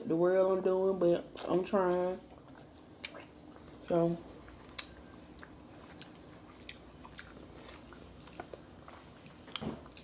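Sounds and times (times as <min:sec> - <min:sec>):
wet chewing clicks and smacks: 0:01.3 - 0:10.0.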